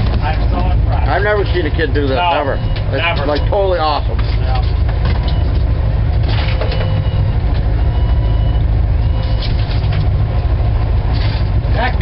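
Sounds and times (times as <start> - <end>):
boat motor rumbling: 0.0 - 12.0.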